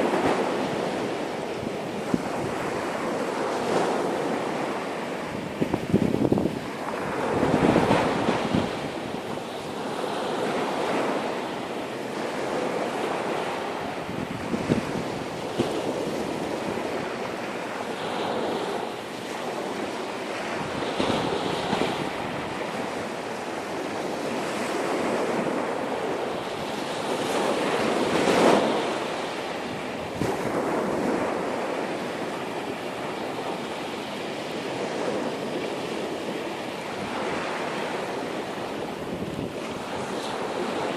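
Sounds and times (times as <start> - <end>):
surf washing onto beach: 0.0 - 40.9
wind buffeting microphone: 0.0 - 40.9.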